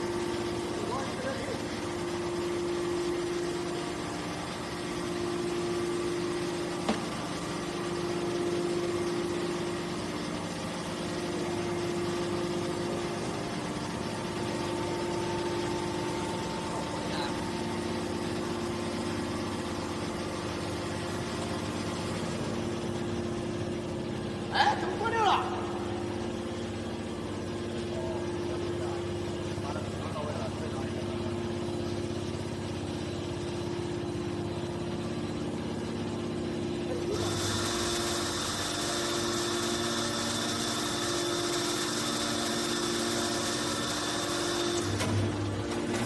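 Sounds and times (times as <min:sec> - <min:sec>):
hydraulic power unit humming: 0:00.0 - 0:46.0.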